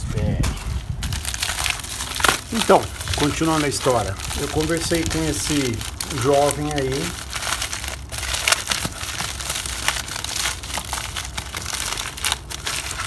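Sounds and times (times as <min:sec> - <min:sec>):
packaging wrap crinkling: 0:00.6 - 0:13.0.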